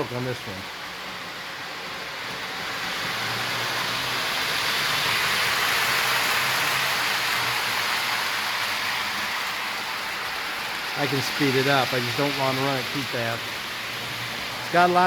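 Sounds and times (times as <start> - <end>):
model train wheels rolling: 0.0 - 15.0.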